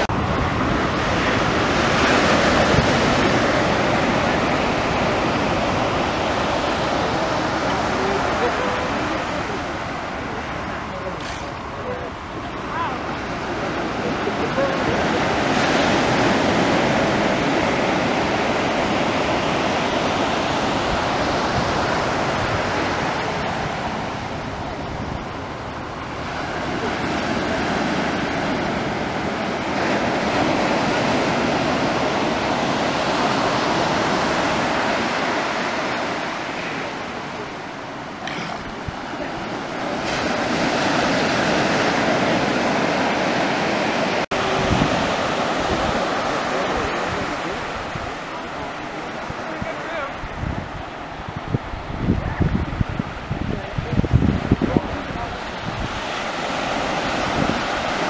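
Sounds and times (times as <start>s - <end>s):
ocean surf washing onto beach: 0.0s - 58.0s
wind on microphone: 0.0s - 58.0s.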